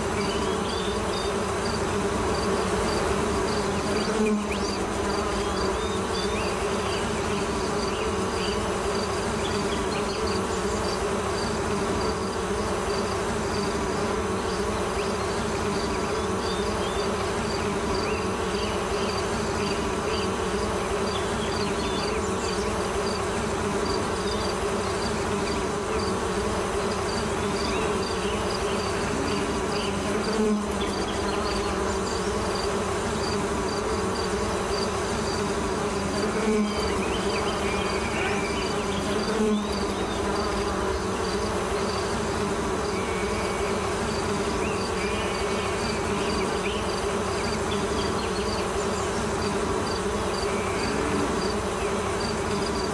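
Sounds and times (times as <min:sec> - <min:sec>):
buzzing drone of flying insects: 0:00.0 - 0:52.9.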